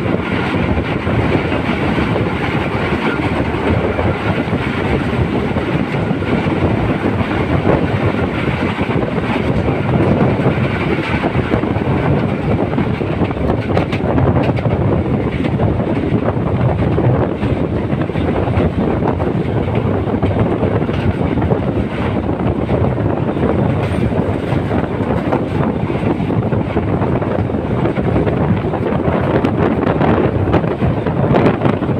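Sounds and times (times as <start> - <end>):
train wheels rattling on rails: 0.0 - 31.9.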